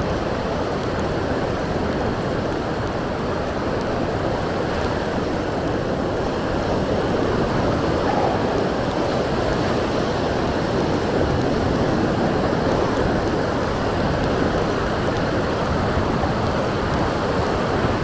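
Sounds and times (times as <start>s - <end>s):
strong wind: 0.0s - 18.0s
surf on a beach: 0.0s - 18.0s
wind rumble on microphone: 0.0s - 18.0s.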